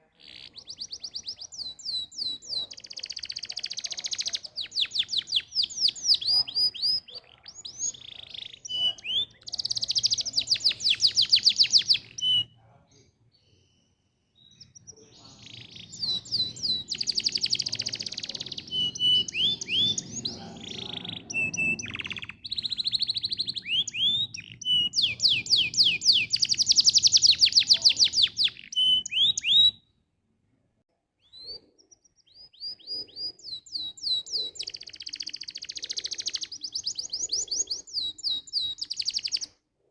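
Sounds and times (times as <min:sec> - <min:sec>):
canary singing trills: 0:00.0 - 0:29.9, 0:31.2 - 0:39.6.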